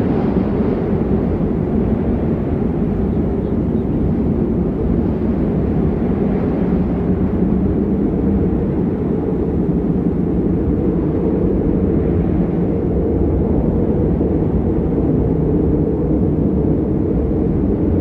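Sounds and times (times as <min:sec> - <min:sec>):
low rumbling wind: 0:00.0 - 0:18.0.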